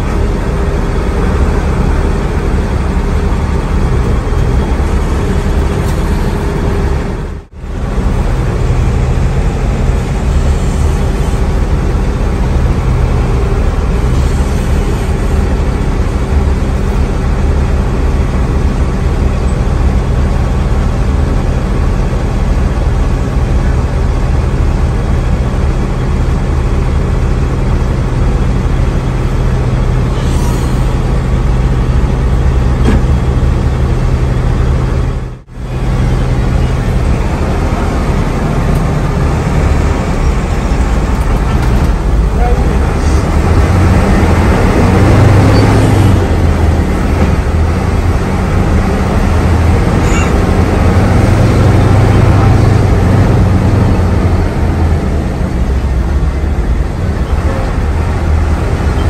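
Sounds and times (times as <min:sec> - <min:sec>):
bus diesel engine running: 0:00.0 - 0:59.0
road noise: 0:00.0 - 0:59.0.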